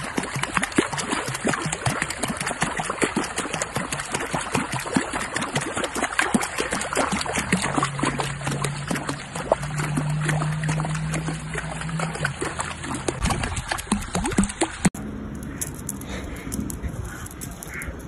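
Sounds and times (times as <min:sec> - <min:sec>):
pool water splashing: 0:00.0 - 0:15.3.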